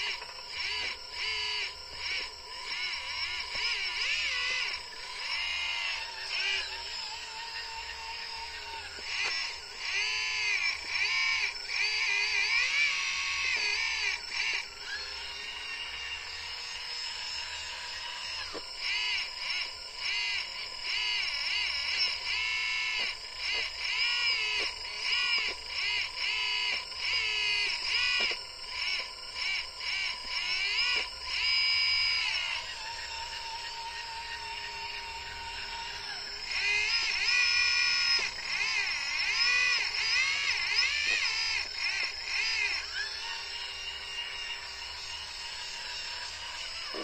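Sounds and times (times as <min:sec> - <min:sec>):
hydraulic pump whining: 0:00.0 - 0:47.0.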